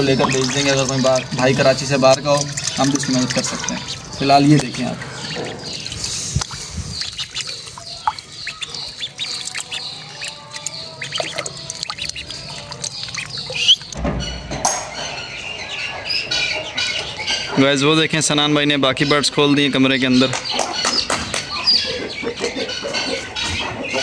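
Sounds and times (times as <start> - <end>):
poultry squawks and chirps: 0.1 - 17.8, 18.9 - 24.0.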